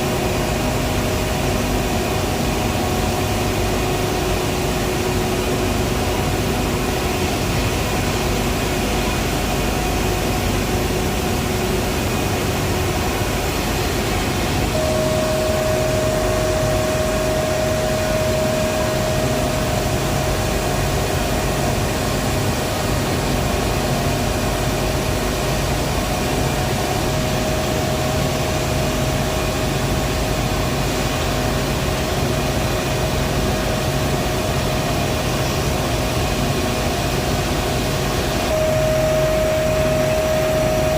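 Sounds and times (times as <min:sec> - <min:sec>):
constant machine hums: 0:00.0 - 0:40.9
power plant machinery noise: 0:00.0 - 0:40.9
steady mid-pitched whine: 0:00.0 - 0:40.9.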